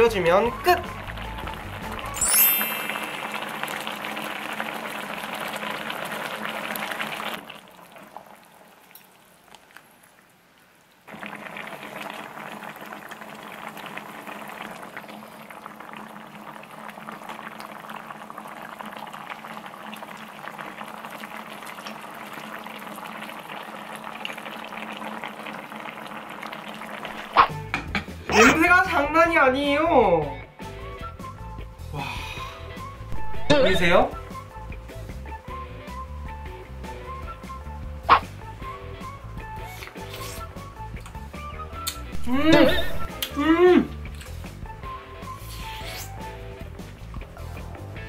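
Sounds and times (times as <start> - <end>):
stew boiling and bubbling: 0.0 - 29.2, 30.0 - 48.0.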